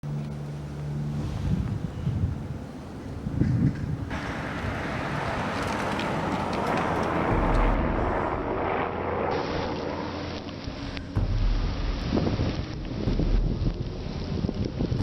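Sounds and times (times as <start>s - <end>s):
blizzard wind blowing hard: 0.5s - 15.0s
wind buffeting microphone: 1.1s - 8.9s, 10.7s - 15.0s.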